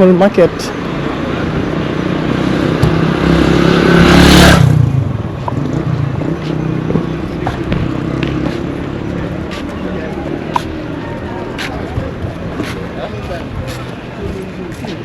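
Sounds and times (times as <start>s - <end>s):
street traffic noise: 0.0s - 15.0s
vehicle passing by: 0.7s - 15.0s.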